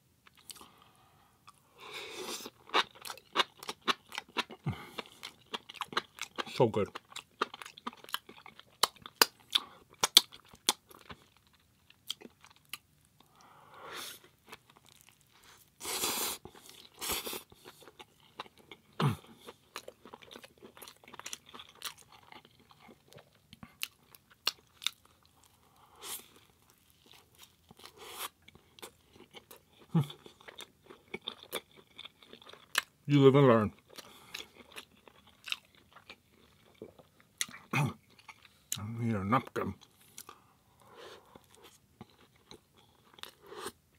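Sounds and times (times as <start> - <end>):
close-miked chewing: 2.2 - 13.5, 16.4 - 33.0, 33.6 - 38.8, 39.6 - 43.8.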